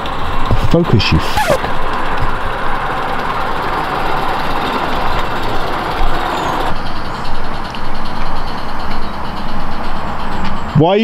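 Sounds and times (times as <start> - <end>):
model train rolling on track: 0.0 - 11.0.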